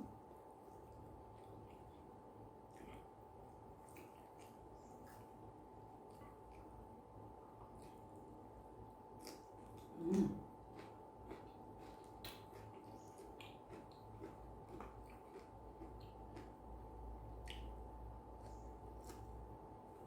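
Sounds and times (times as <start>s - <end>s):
low hummed sound: 0.0s - 20.0s
person chewing food: 0.7s - 19.6s.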